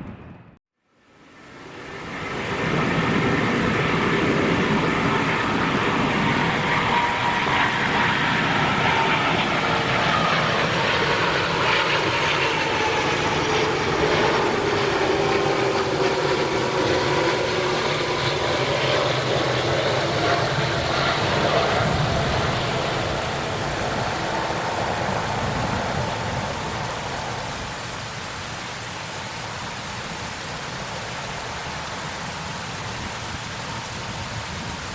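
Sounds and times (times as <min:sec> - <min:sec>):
airliner jet engines: 0:00.0 - 0:34.9.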